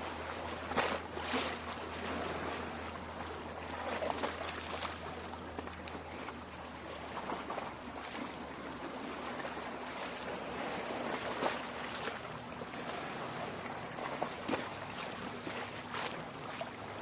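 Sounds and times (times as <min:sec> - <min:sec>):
lake water lapping at shore: 0:00.0 - 0:17.0.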